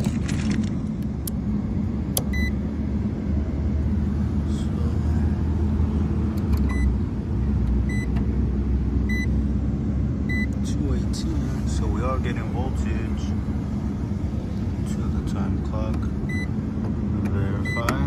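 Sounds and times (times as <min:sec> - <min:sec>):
low mechanical rumble and hum: 0:00.0 - 0:18.0.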